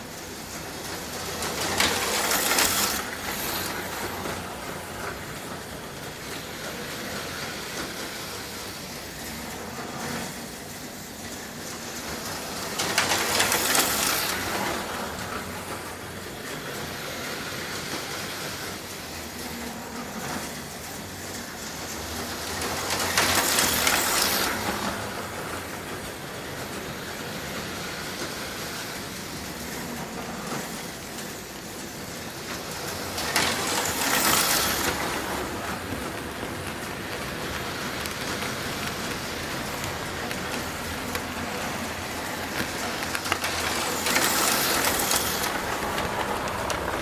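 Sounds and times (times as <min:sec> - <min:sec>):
slot cars whirring: 0:00.0 - 0:47.0.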